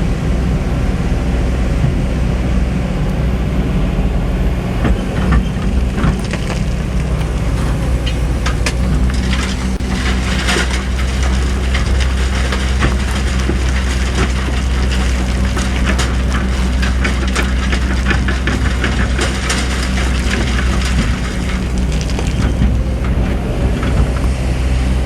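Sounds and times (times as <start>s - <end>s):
bucket crackling through sand and stones: 0.0s - 25.0s
excavator diesel engine: 0.0s - 25.0s.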